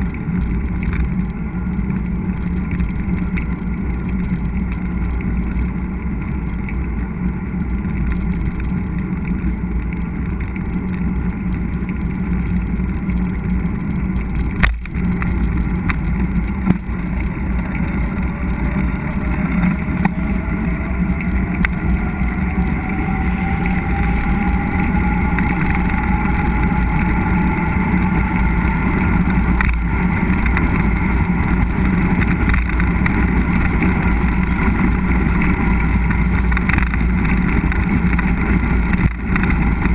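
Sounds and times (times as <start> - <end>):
faint rising whine: 0.0 - 39.9
wind on microphone: 0.0 - 39.9.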